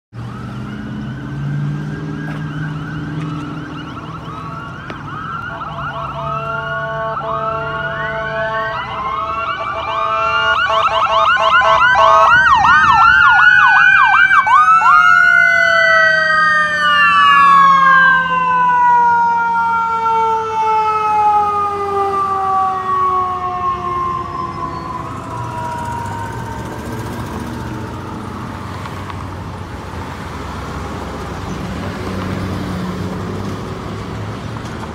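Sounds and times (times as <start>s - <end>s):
emergency vehicle sirens yelping: 0.1s - 34.9s.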